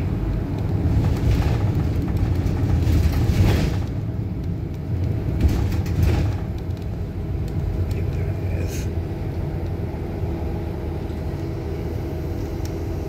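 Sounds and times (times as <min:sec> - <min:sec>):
bus interior rumble: 0:00.0 - 0:13.0.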